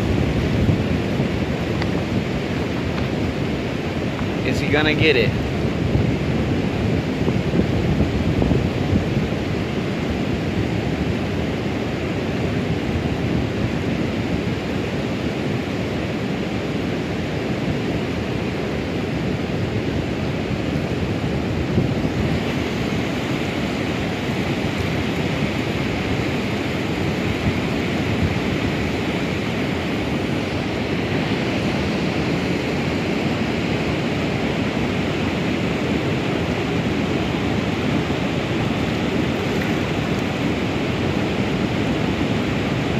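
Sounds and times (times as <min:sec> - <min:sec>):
fast-flowing river water rushing: 0:00.0 - 0:42.9.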